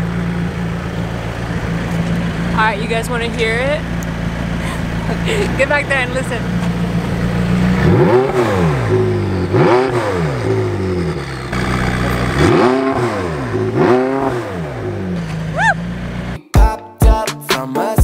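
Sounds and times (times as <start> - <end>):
car engine idling and revving: 0.0 - 16.4.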